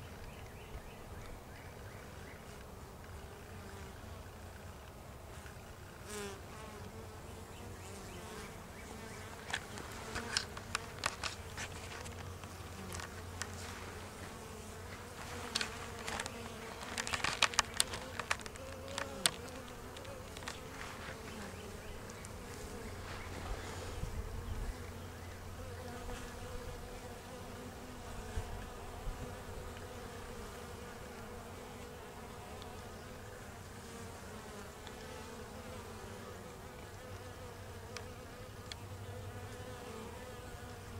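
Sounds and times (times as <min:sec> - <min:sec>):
bees buzzing: 0:06.0 - 0:40.9.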